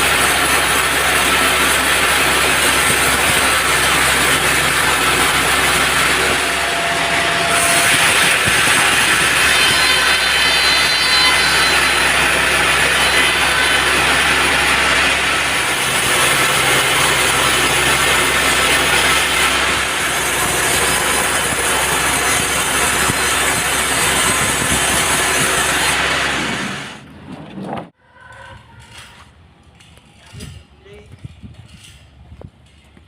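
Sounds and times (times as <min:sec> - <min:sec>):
band saw cutting wood: 0:00.0 - 0:27.0.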